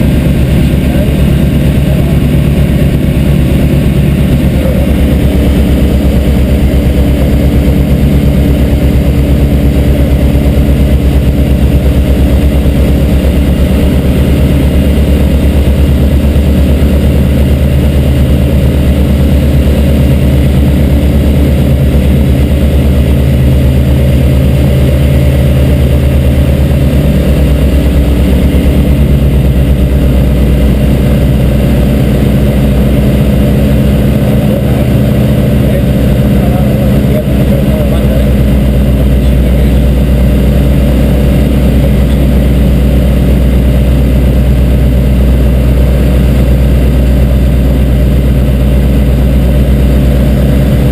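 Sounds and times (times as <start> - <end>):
light aircraft engine drone: 0.0 - 50.9.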